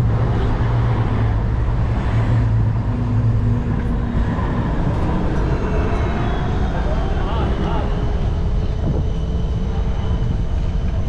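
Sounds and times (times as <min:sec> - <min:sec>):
road noise: 0:00.0 - 0:11.0
vehicle engine hum: 0:00.0 - 0:11.0.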